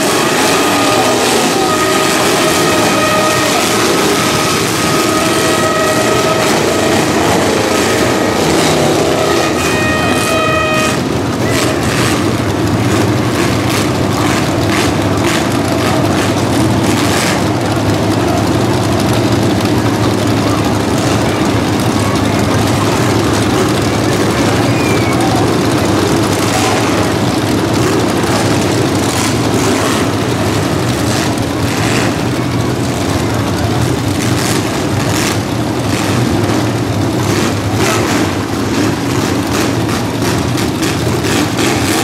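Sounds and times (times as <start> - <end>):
horn blowing: 0.0 - 39.8
car engines running hard: 0.0 - 42.0.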